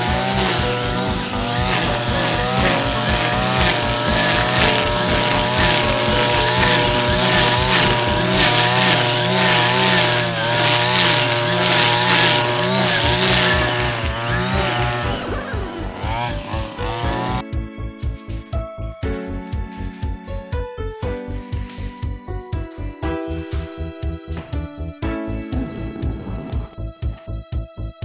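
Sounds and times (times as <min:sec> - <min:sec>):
music with driving beat: 0:00.0 - 0:28.0.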